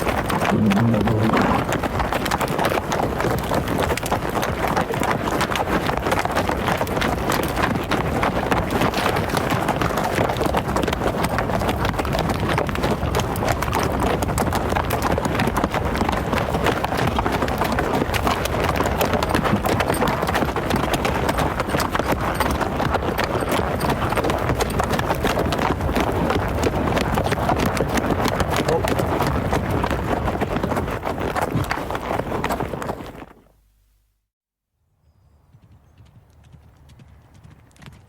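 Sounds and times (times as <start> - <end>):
hoofbeats of running animals: 0.0 - 33.5, 35.3 - 38.0.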